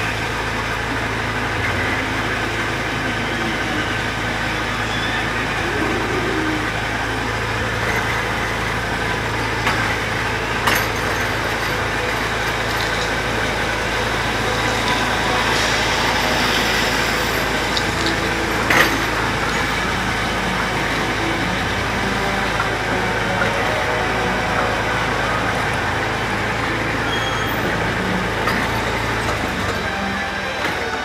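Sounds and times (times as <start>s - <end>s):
ride motor hum: 0.0s - 31.0s
rolling rumble: 0.0s - 31.0s.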